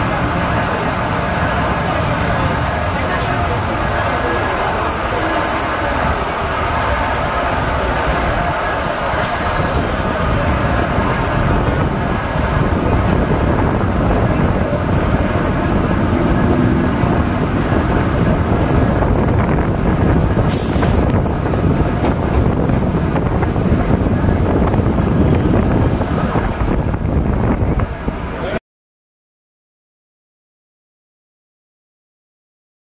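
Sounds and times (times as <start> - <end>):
train wheels rumbling on rails: 0.0 - 28.6.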